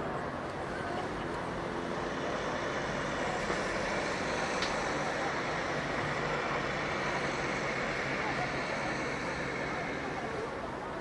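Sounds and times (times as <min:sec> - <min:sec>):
rumbling hiss of distant traffic: 0:00.0 - 0:11.0.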